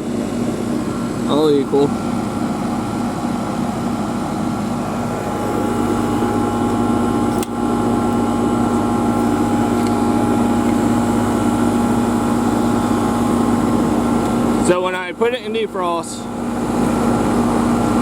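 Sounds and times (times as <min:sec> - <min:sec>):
heat pump unit humming and whining: 0:00.0 - 0:18.0.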